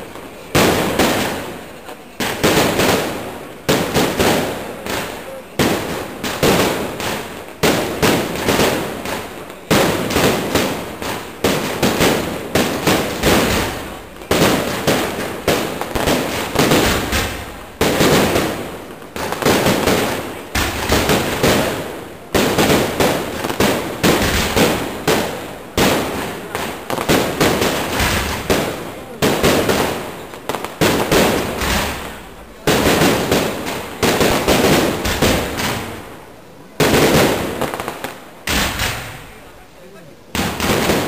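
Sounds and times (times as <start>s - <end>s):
fireworks bursts and bangs: 0.0s - 41.0s.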